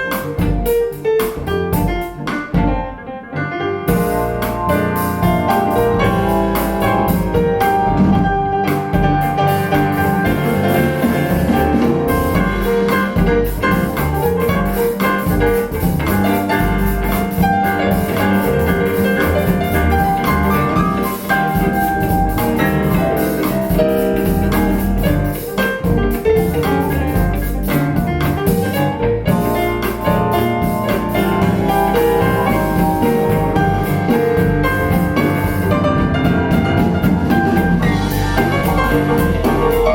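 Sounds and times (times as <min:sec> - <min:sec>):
piano and drums music: 0:00.0 - 0:39.9.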